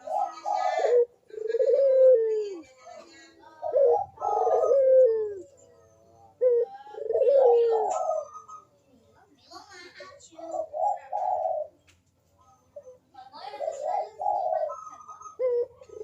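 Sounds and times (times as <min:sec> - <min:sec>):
dove cooing: 0:00.0 - 0:08.8, 0:10.3 - 0:11.8, 0:12.6 - 0:16.0.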